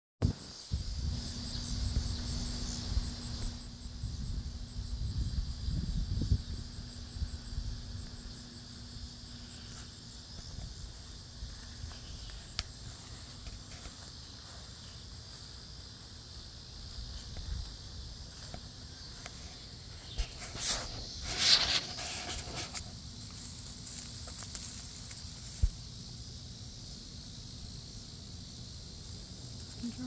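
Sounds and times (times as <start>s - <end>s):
insects chirring: 0.2s - 30.0s.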